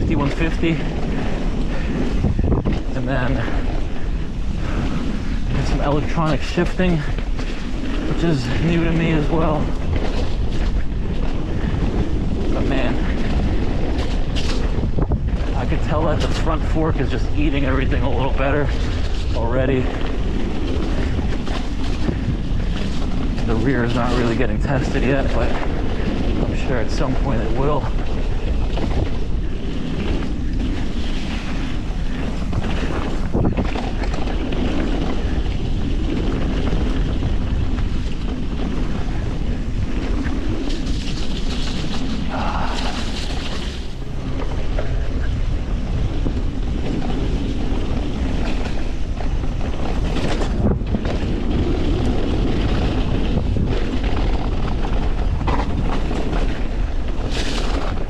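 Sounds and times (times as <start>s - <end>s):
bike tyres rumbling on dirt: 0.0s - 58.0s
wind on microphone: 0.0s - 58.0s.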